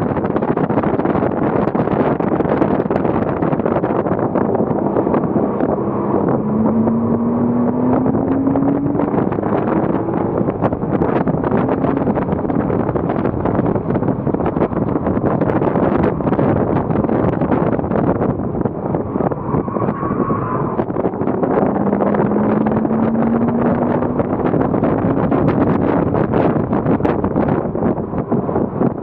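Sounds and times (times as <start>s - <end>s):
wind and road noise: 0.0s - 29.0s
car engine accelerating: 1.0s - 29.0s.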